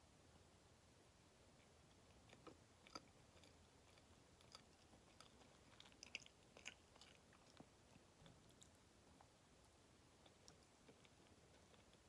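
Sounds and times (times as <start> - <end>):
faint chewing: 1.6 - 12.0.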